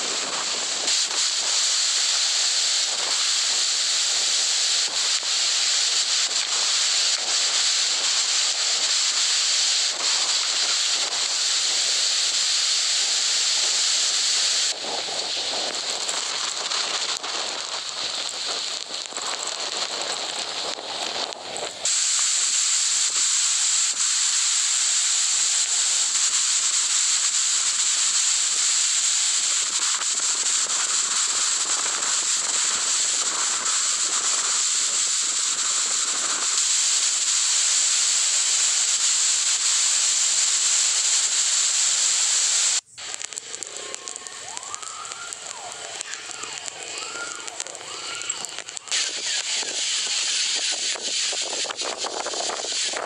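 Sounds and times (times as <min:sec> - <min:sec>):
strong wind and driving rain: 0:00.0 - 0:53.0.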